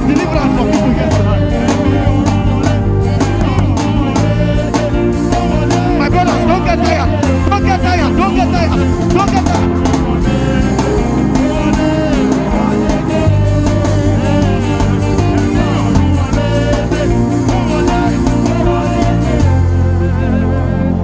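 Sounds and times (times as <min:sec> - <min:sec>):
live worship band music: 0:00.0 - 0:21.0.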